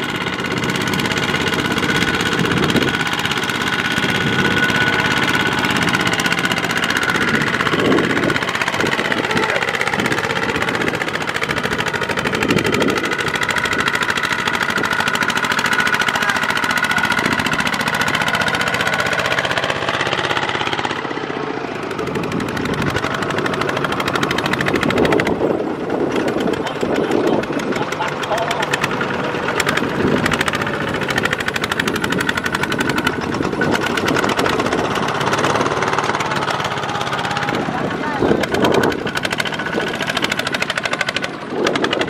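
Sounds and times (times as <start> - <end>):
diesel tractor engines running: 0.0 - 42.0.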